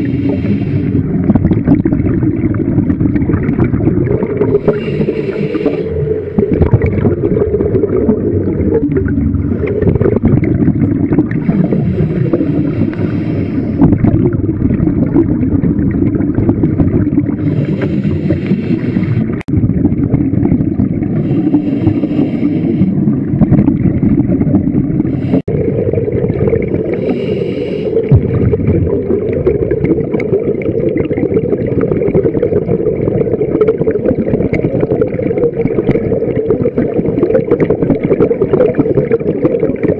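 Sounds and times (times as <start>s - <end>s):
exhaled bubbles hissing: 0.0s - 39.9s
underwater water noise: 0.0s - 39.9s.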